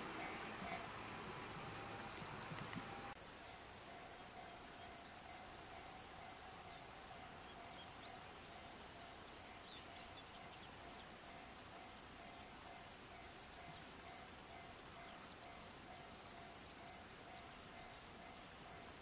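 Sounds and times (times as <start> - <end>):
faint steady hum: 0.0 - 19.0
small birds chirping: 0.0 - 19.0.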